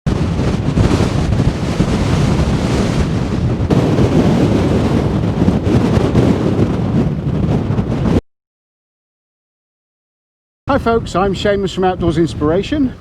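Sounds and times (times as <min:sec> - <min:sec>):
wind blowing across microphone: 0:00.1 - 0:08.2, 0:10.7 - 0:13.0.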